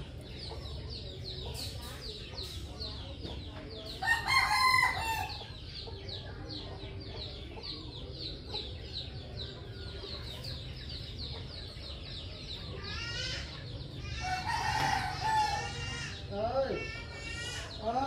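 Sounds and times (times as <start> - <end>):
chickens calling: 0.0 - 18.0
chicks peeping: 0.0 - 18.0.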